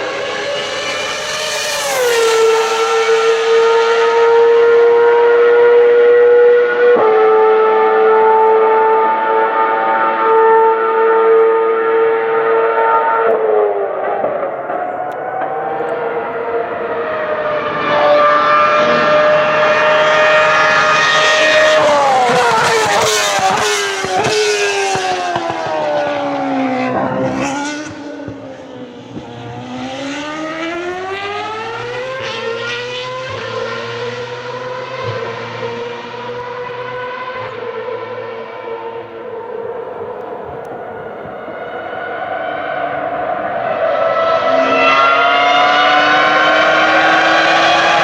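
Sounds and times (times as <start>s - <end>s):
engine revving through gear changes: 0.0s - 42.0s, 43.6s - 48.0s
racing car engine passing by: 0.0s - 48.0s.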